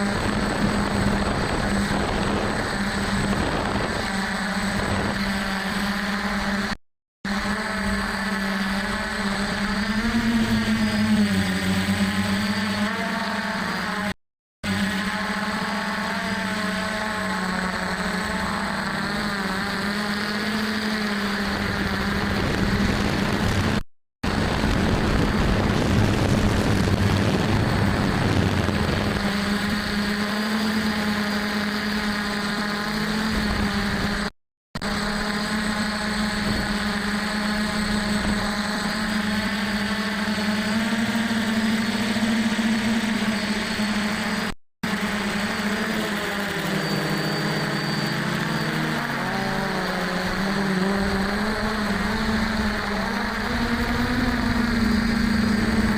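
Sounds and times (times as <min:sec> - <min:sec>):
drone motors droning: 0:00.0 - 0:55.9.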